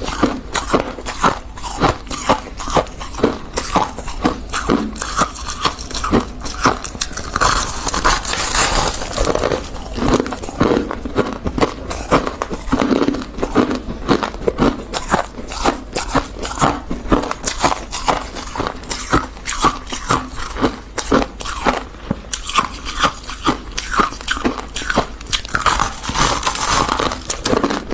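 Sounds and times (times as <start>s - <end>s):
crunching of freezer frost: 0.0s - 27.9s.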